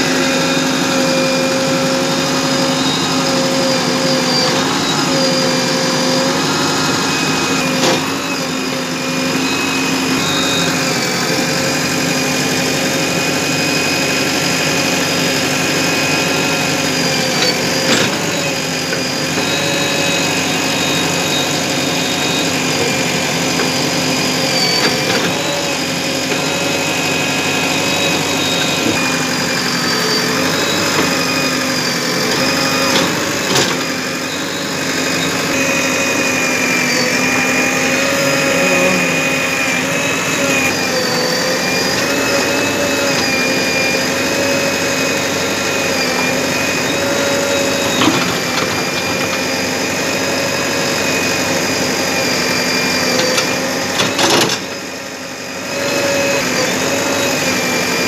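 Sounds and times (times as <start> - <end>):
backhoe diesel engine running: 0.0 - 58.0
hydraulic whine: 0.0 - 58.0.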